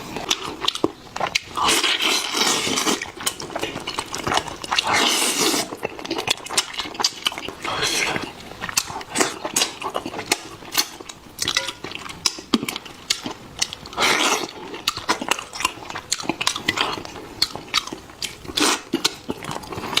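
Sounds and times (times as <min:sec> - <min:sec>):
chewing with wet smacks: 0:00.0 - 0:20.0.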